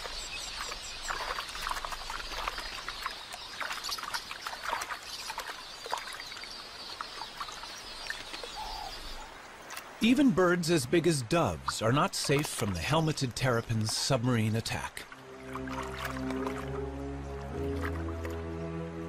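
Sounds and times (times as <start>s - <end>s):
water splashing: 0.0s - 18.8s.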